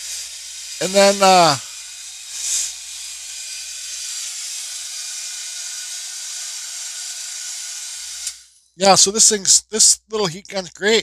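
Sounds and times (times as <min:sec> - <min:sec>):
heat gun fan blowing: 0:00.0 - 0:09.0.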